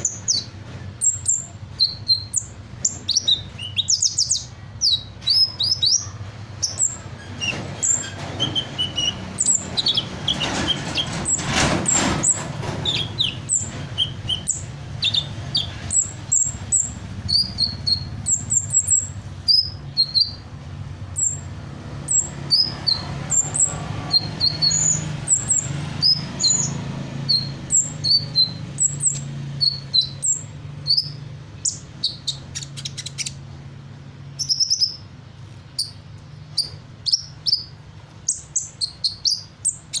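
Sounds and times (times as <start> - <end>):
bird singing high chirps: 0.0 - 11.4, 12.2 - 33.5, 34.2 - 40.0.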